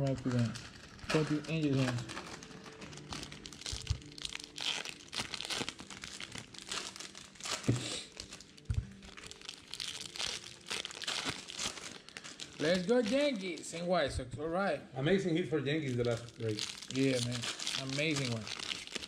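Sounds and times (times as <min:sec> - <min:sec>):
foil wrappers crinkling and tearing: 0:00.0 - 0:14.0, 0:15.7 - 0:19.0.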